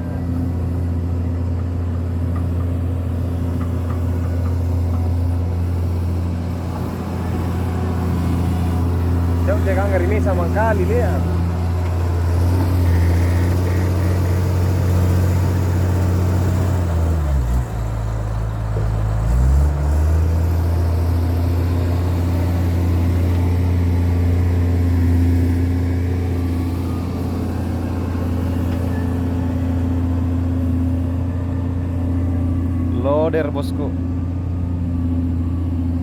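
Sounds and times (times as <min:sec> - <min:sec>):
wheel loader diesel engine: 0:00.0 - 0:36.0.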